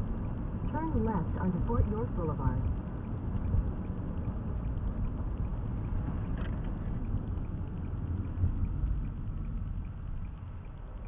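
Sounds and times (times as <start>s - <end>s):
car interior road noise: 0.0s - 11.0s.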